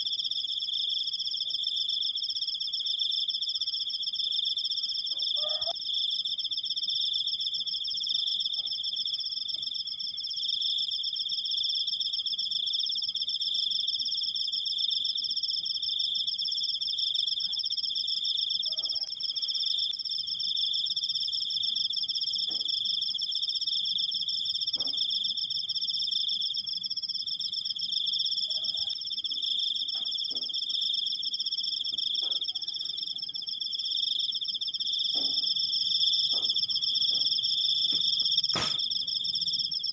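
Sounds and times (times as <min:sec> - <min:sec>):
cricket trilling: 0:00.0 - 0:39.9.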